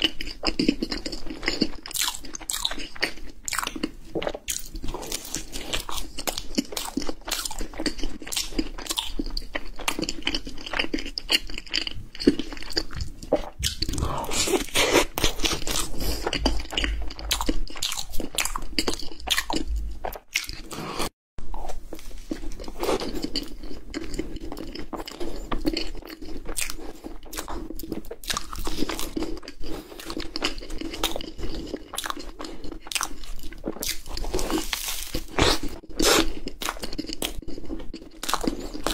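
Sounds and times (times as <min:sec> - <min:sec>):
crunching and chewing cream puffs: 0:00.0 - 0:38.9.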